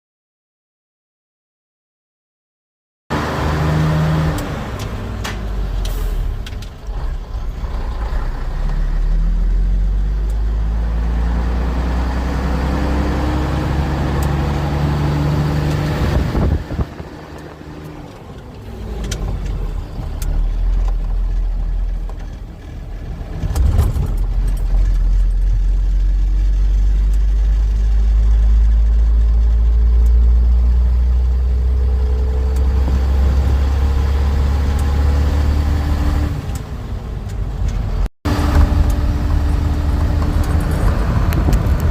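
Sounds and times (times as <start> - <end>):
diesel truck engine under load: 3.1 - 41.9.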